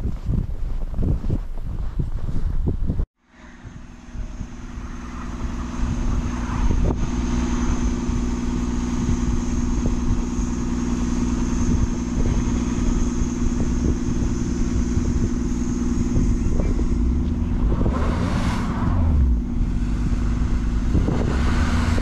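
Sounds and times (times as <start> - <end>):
idling vehicle engines: 3.2 - 22.0.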